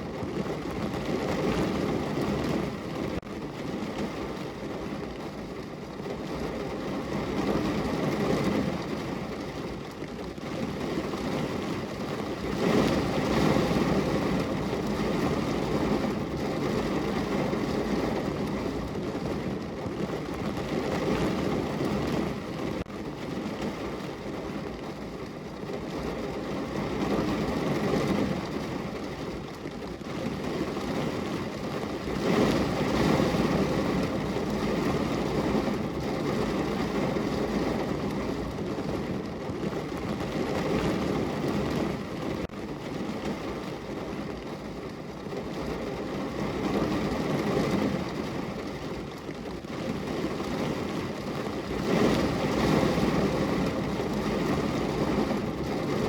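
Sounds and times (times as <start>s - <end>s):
heavy rain on car roof: 0.0s - 56.0s.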